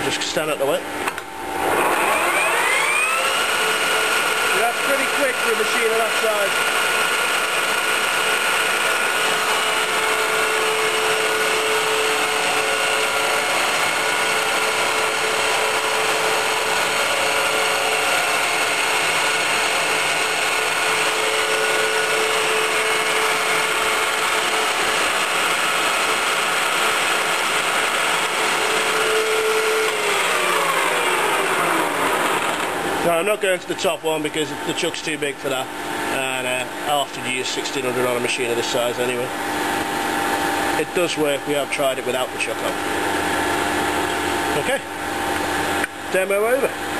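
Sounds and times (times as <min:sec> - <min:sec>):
lathe spindle whining: 0:01.5 - 0:46.9.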